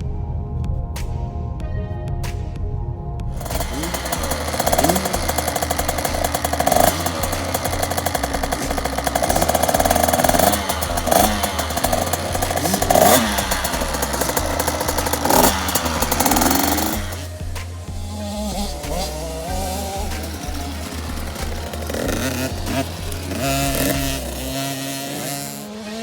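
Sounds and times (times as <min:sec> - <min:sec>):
two-stroke engine revving: 0:03.4 - 0:26.0.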